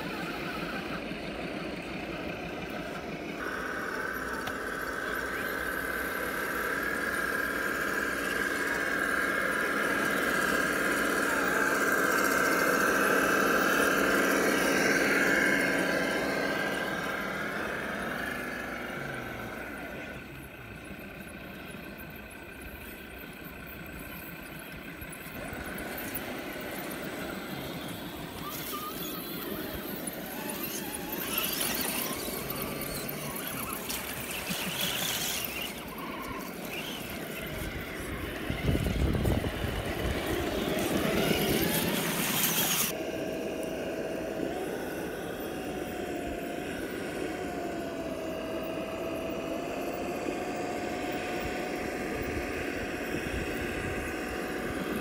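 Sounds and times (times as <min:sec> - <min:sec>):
electric motor and gear whine: 0:00.0 - 0:55.0
steady high whine: 0:00.0 - 0:55.0.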